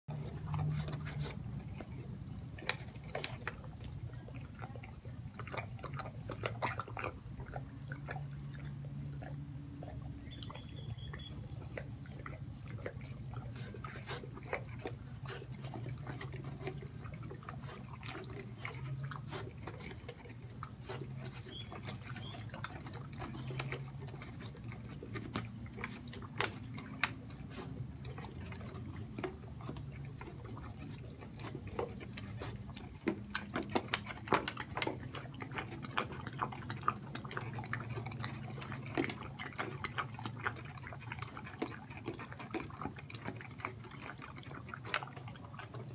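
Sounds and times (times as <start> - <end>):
dog licking and chewing plastic bottle: 0.1 - 45.9
teeth clicking on plastic: 0.1 - 45.9.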